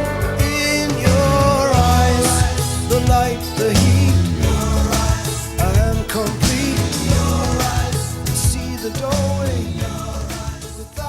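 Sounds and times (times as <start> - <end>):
pop-rock song with vocals: 0.0 - 11.0.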